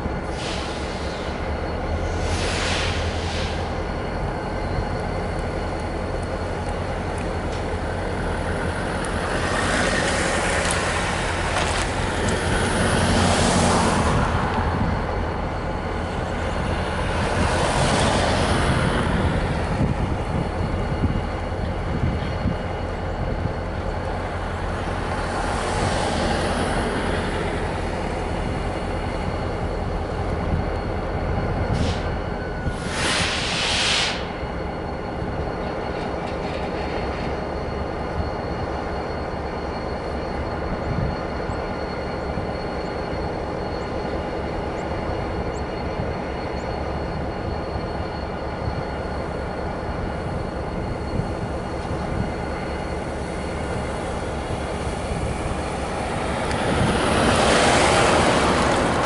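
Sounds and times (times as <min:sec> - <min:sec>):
diesel locomotive idling: 0:00.0 - 0:59.0.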